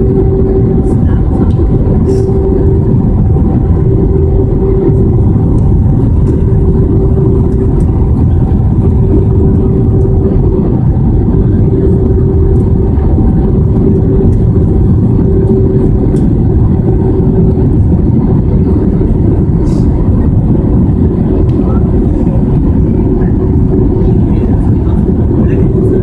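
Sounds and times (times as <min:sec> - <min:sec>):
aircraft engine and airflow noise: 0:00.0 - 0:26.0
constant hum: 0:00.0 - 0:26.0.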